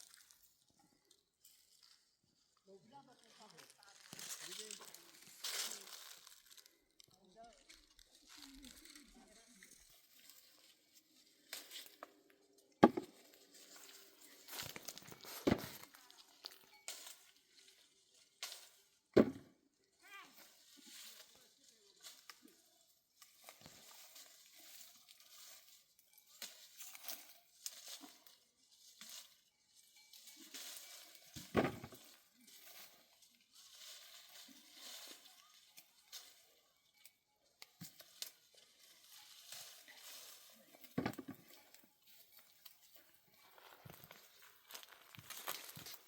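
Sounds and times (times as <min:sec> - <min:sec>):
faint rustling and crackling: 0:00.0 - 0:46.0.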